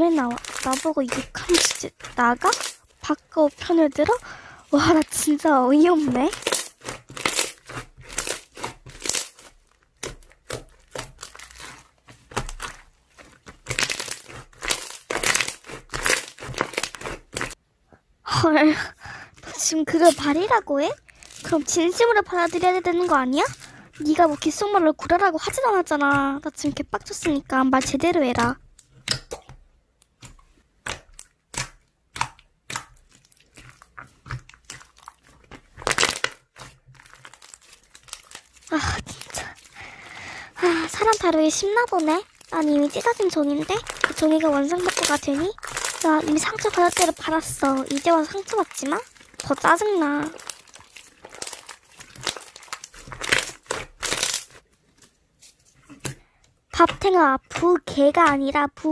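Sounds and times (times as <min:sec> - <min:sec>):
slime squeezed by hand crackling: 0:00.0 - 0:17.6, 0:19.4 - 0:54.7.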